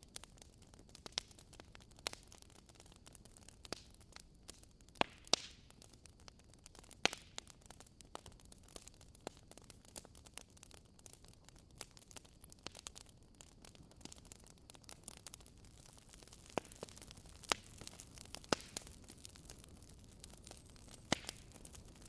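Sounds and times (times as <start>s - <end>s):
faint fire hiss: 0.0s - 22.0s
wood crackling and popping: 0.0s - 22.0s.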